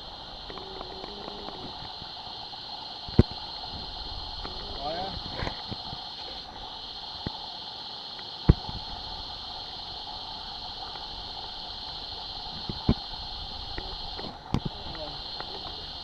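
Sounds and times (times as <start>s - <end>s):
high-pitched insect drone: 0.0s - 16.0s
low insect drone: 0.0s - 16.0s.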